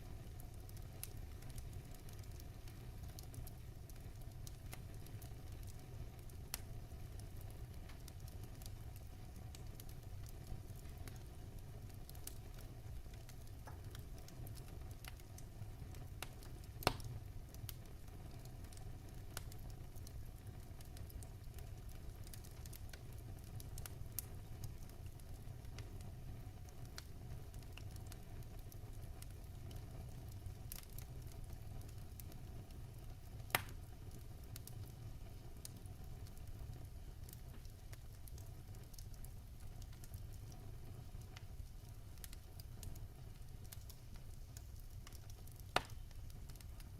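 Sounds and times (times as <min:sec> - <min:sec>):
fire crackling and popping: 0:00.0 - 0:46.9
fire rumbling: 0:00.0 - 0:46.9.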